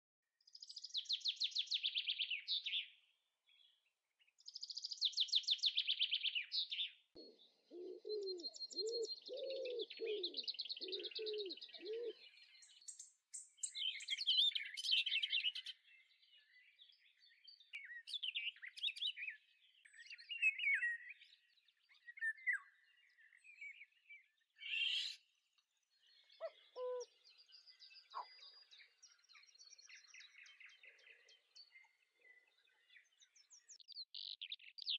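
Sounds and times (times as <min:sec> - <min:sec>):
small birds chirping: 0:00.4 - 0:34.9.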